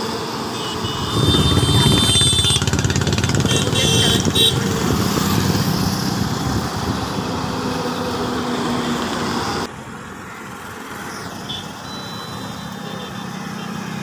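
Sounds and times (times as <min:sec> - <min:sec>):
roadside traffic: 0:00.0 - 0:14.0
vehicle engine and road noise: 0:00.0 - 0:14.0.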